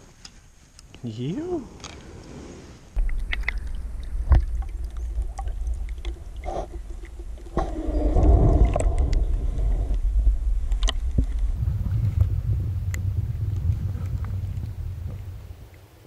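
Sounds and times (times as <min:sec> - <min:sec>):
steady low rumble: 0:02.9 - 0:16.0
water lapping and gurgling: 0:03.0 - 0:16.0.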